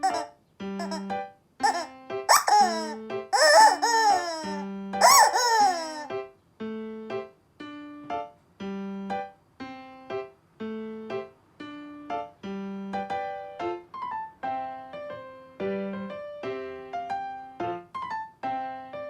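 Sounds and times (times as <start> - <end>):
light piano-like tune: 0.0 - 19.0.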